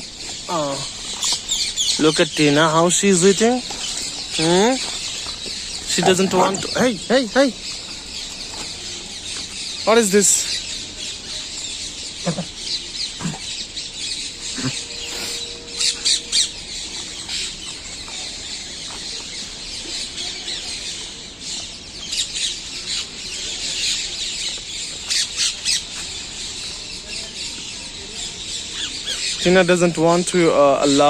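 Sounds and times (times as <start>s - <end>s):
birds chattering: 0.0s - 31.0s
sharp bird calls: 0.0s - 31.0s.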